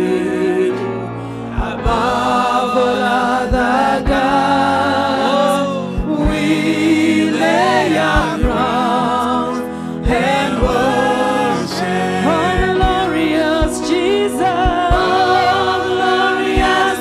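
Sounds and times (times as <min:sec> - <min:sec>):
group singing with band: 0:00.0 - 0:17.0.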